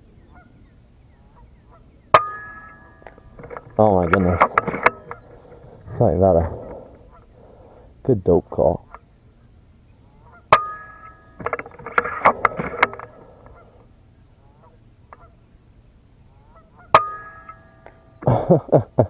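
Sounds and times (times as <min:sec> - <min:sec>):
geese honking: 0:00.0 - 0:07.9, 0:10.0 - 0:15.5, 0:16.3 - 0:18.2.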